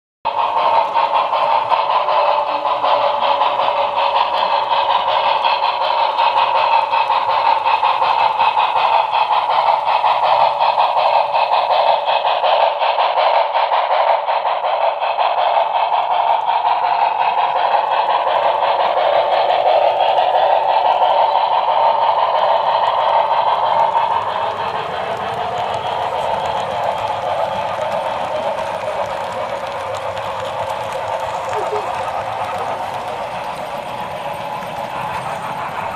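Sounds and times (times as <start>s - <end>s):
model train whirring clatter: 0.3s - 35.9s.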